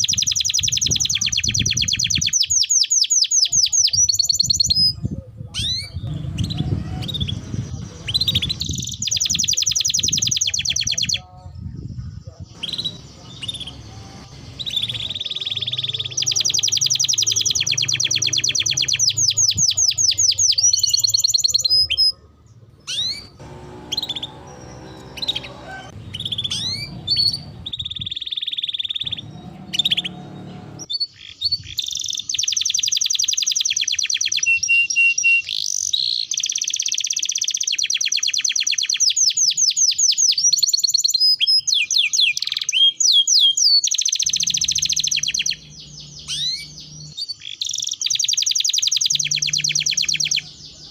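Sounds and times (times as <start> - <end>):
canary singing: 0.0 - 50.9.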